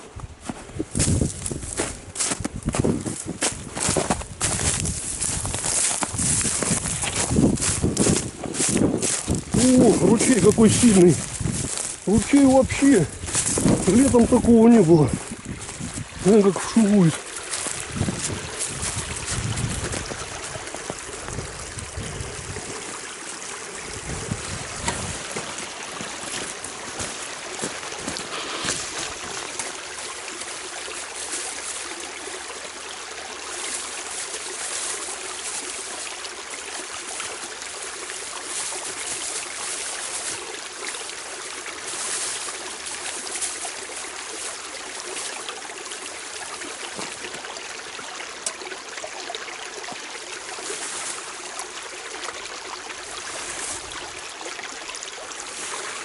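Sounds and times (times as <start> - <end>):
stream rushing and gurgling: 0.0 - 56.0.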